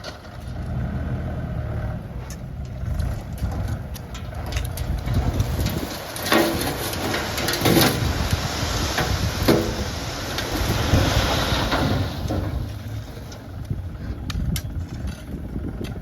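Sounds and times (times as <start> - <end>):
diesel engine running: 0.0 - 16.0
rushing scraping of earth: 0.0 - 16.0.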